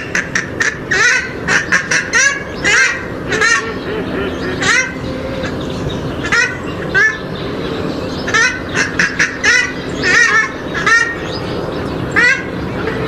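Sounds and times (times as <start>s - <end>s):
birds giving harsh honking calls: 0.0s - 13.0s
steady low hum: 0.0s - 13.0s.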